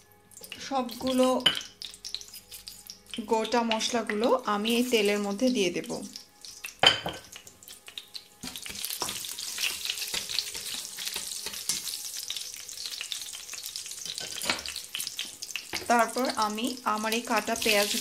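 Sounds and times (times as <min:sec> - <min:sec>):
spices sizzling in hot oil: 0:00.0 - 0:18.0.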